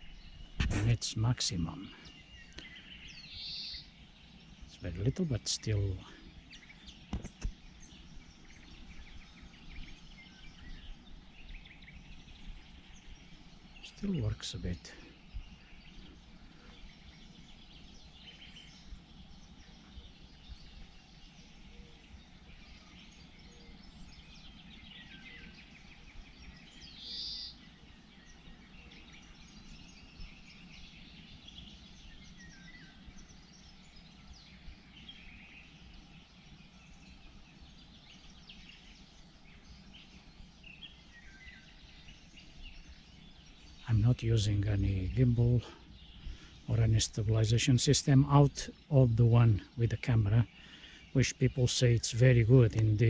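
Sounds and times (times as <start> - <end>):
low steady background rumble: 0.0 - 53.0
small birds singing and chirping: 0.0 - 53.0.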